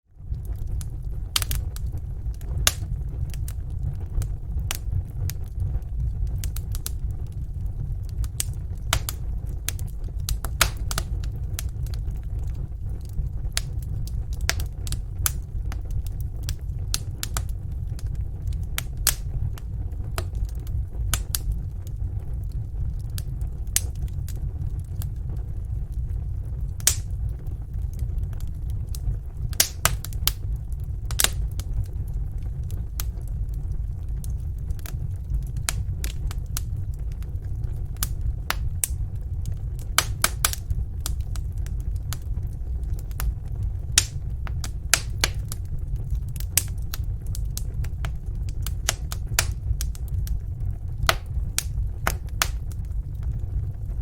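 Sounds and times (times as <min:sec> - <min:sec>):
low rumble: 0:00.1 - 0:54.0
wood fire crackling and popping: 0:00.1 - 0:54.0.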